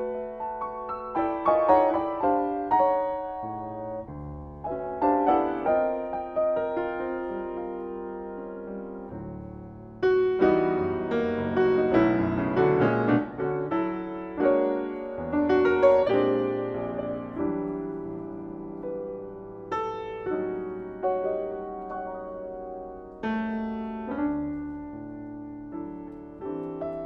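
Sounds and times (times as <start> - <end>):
solo jazz piano: 0.0 - 27.0.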